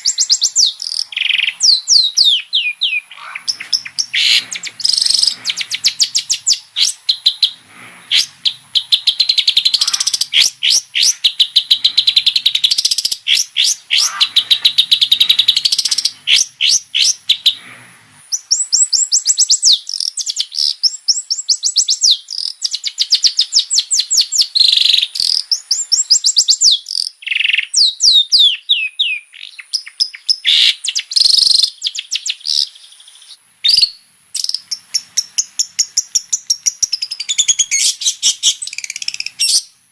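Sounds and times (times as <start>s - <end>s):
bird singing fast chattering song: 0.0s - 17.6s, 18.3s - 39.8s.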